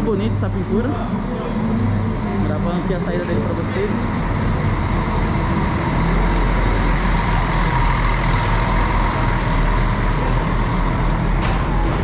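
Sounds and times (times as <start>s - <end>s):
diesel coach engine rumbling: 0.0s - 12.0s.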